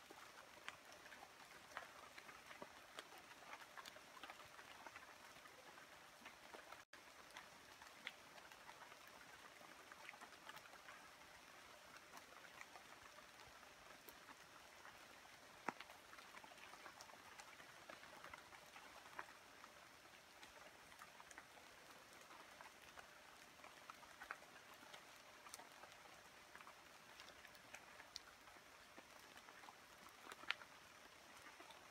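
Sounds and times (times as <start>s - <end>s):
light rain on leaves: 0.0s - 31.9s.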